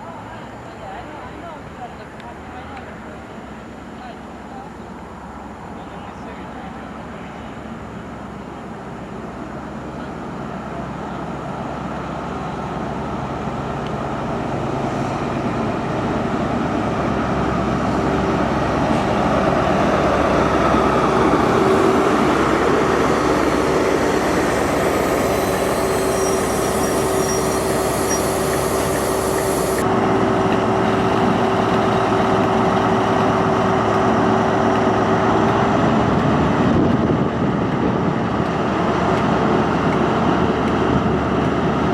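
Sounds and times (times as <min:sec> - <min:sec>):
train passing: 0:00.0 - 0:41.9.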